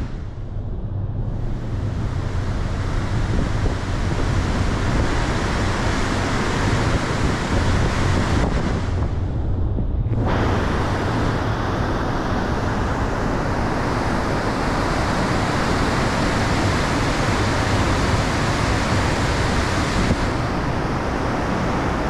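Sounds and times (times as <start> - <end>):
sea noise: 0.0 - 0.4, 1.2 - 9.3, 10.2 - 22.0
wind buffeting microphone: 0.0 - 22.0
wind rushing: 0.0 - 22.0.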